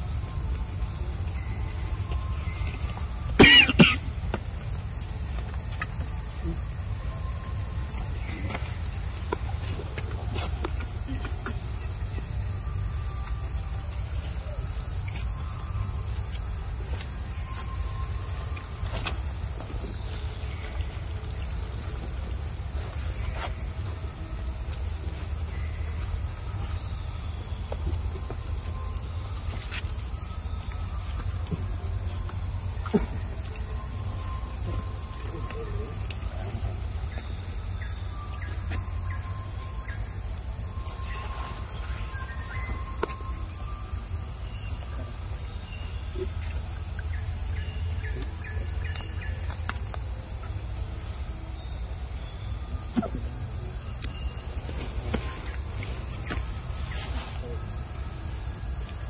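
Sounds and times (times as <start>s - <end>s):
insect chorus: 0.0s - 59.0s.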